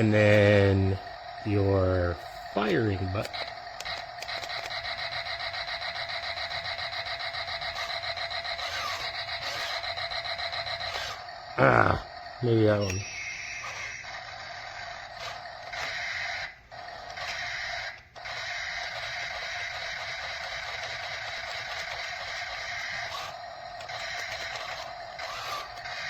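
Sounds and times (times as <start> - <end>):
toy tank motors whining: 0.0 - 26.0.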